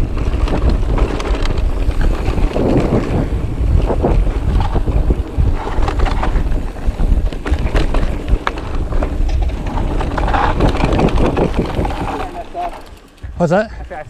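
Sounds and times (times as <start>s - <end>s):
bike clattering over bumps: 0.0s - 13.9s
wind buffeting microphone: 0.0s - 14.0s.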